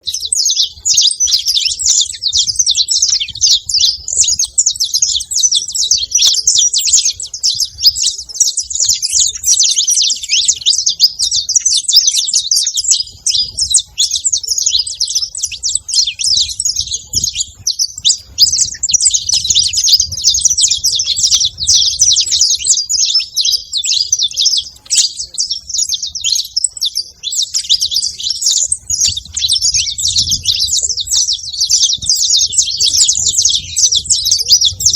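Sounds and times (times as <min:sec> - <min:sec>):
finch singing high chirps: 0:00.0 - 0:34.9.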